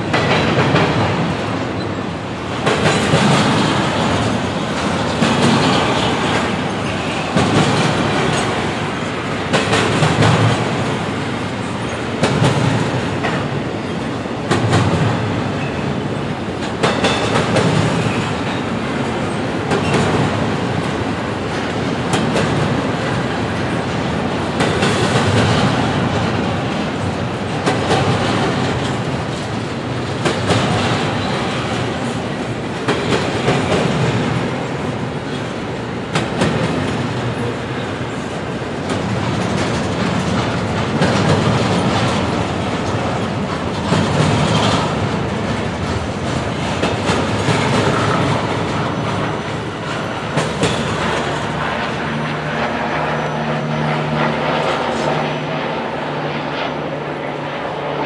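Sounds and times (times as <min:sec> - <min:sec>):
wheels clacking over rail joints: 0:00.0 - 0:53.4
steel wheels rumbling on rail: 0:00.0 - 0:58.0.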